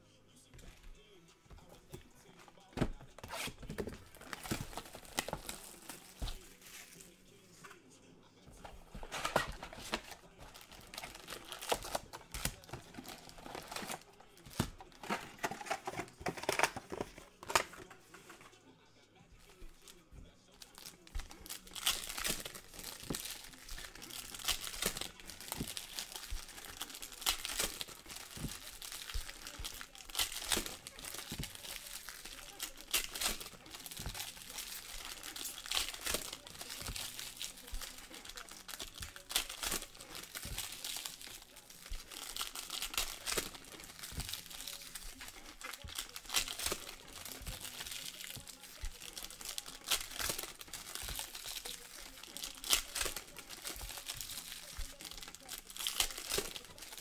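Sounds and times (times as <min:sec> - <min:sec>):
foil wrappers crinkling and tearing: 0:01.6 - 0:07.7, 0:08.4 - 0:18.6, 0:19.3 - 0:57.0.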